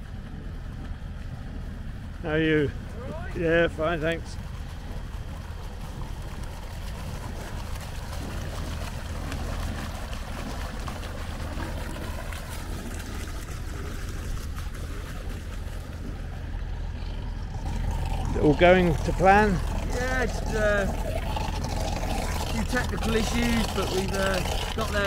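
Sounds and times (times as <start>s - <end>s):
engine droning: 0.0s - 25.0s.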